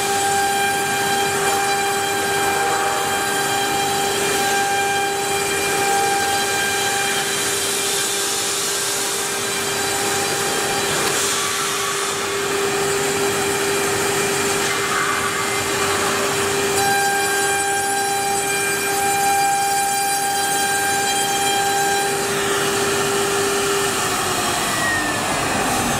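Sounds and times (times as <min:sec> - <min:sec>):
router spindle whining: 0:00.0 - 0:25.9.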